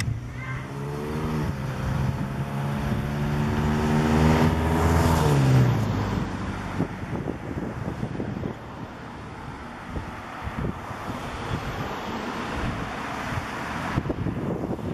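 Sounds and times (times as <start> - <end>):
car driving past: 0.0 - 14.5.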